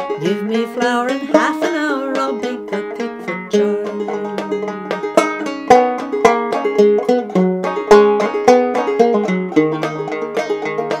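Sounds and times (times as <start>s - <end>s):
banjo playing: 0.0s - 11.0s.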